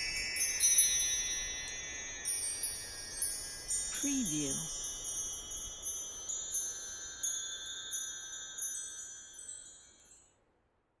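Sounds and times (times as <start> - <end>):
wind chimes tinkling: 0.0 - 10.4.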